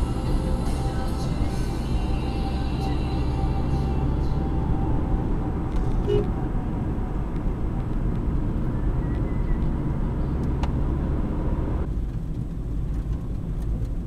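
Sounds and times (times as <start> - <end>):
car road and engine noise: 0.0 - 14.0
tyres on asphalt: 0.0 - 14.0.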